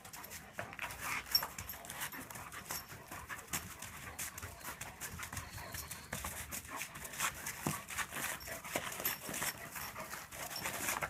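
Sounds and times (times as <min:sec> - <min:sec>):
paws scuffing on artificial grass: 0:00.0 - 0:11.0.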